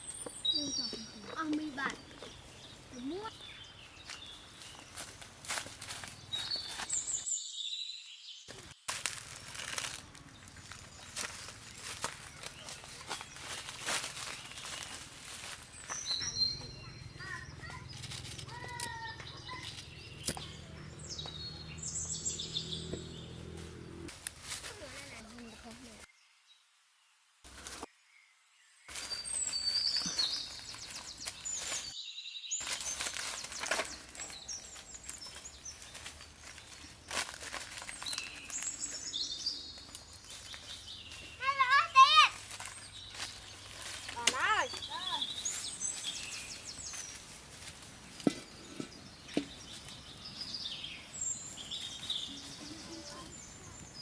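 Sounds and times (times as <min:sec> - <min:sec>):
small birds chirping: 0:00.0 - 0:26.7, 0:27.5 - 0:54.0
outdoor background noise: 0:00.0 - 0:54.0.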